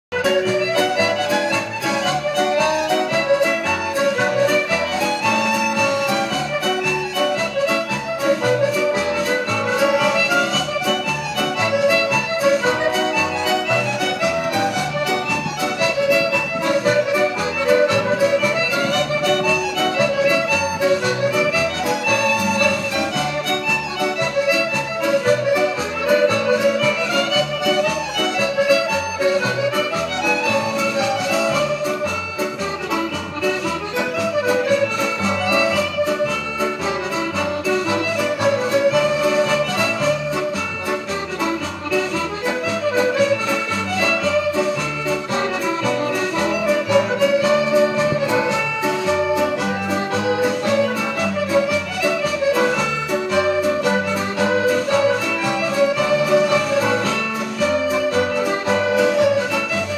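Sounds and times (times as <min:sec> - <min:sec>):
jig dance music over loudspeaker: 0:00.1 - 0:59.9.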